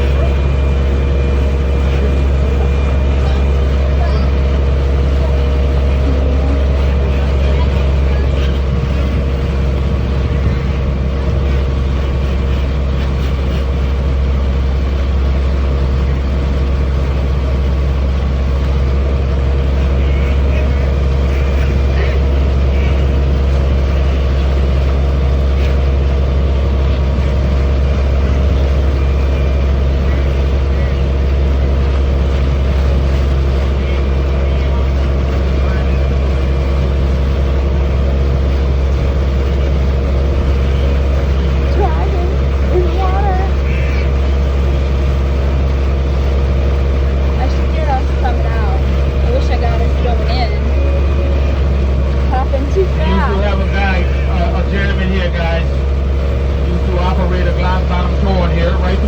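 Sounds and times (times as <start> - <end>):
boat engine droning: 0.0 - 59.0
thin steady whine: 0.0 - 59.0.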